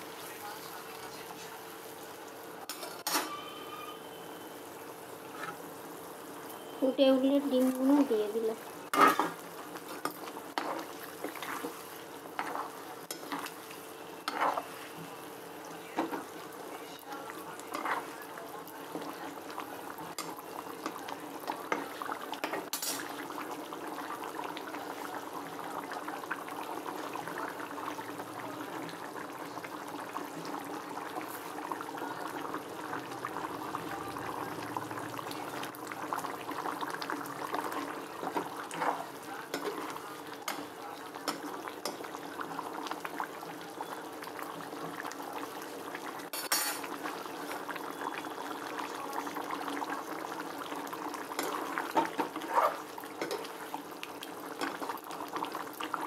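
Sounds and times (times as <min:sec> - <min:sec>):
curry bubbling and crackling: 0:04.8 - 0:56.0.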